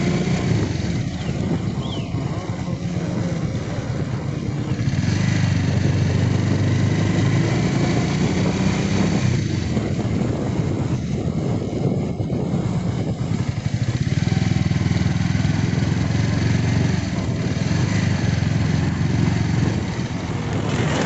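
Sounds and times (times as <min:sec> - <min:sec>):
motorcycle engine running: 0:00.0 - 0:21.0
road noise: 0:00.0 - 0:21.0
wind rushing: 0:00.0 - 0:21.0.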